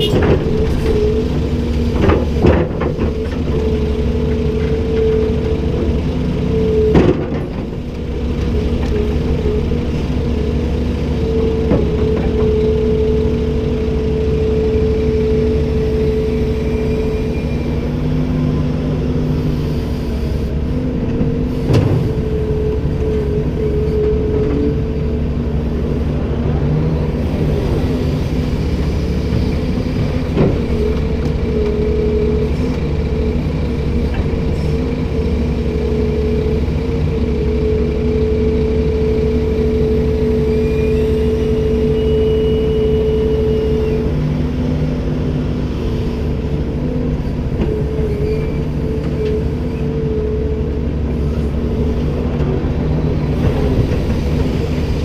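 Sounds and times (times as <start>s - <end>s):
excavator diesel engine drone: 0.0s - 55.0s.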